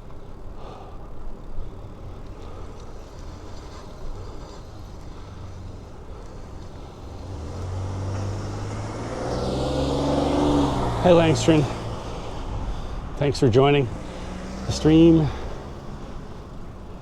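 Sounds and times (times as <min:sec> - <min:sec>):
low traffic rumble: 0:00.0 - 0:17.0
vehicle engine hum: 0:00.0 - 0:17.0.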